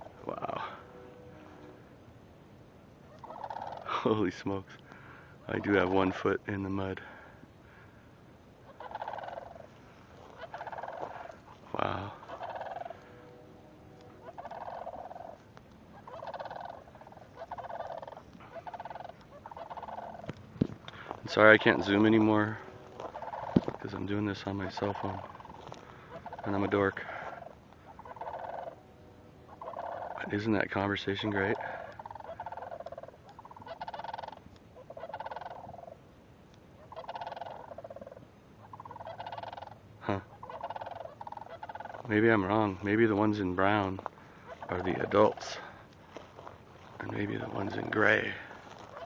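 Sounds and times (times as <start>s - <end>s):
cranes calling: 0.0s - 49.0s.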